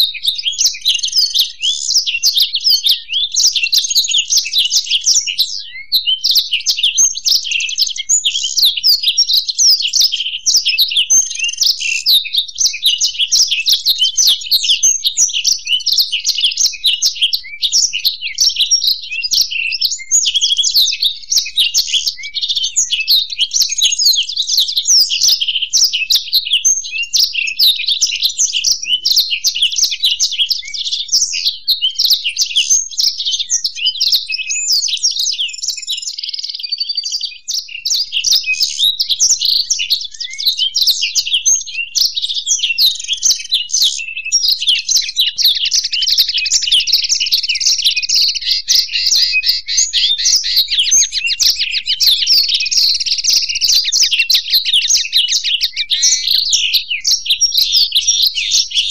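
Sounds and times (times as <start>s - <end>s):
birds singing fast high twittering: 0.0s - 58.9s.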